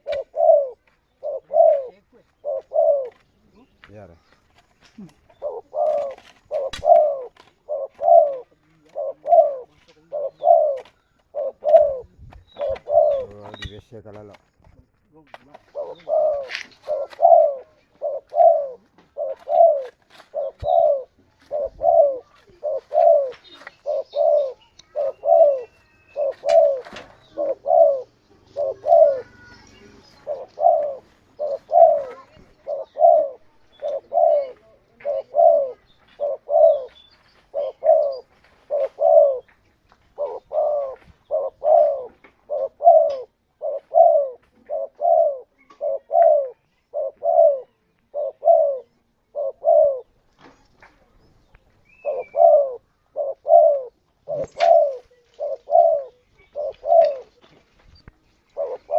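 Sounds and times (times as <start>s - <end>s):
dove cooing: 0.0s - 13.8s, 15.5s - 57.6s, 58.2s - 58.9s
faint bird chirps: 0.0s - 14.0s, 15.8s - 58.9s.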